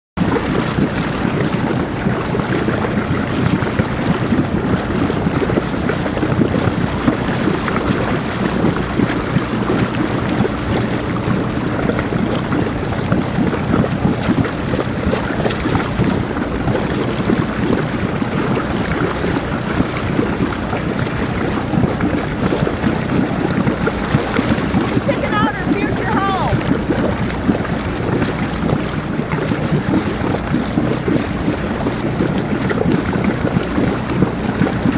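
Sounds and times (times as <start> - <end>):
motorboat engine running: 0.2 - 34.9
water rushing past: 0.2 - 34.9.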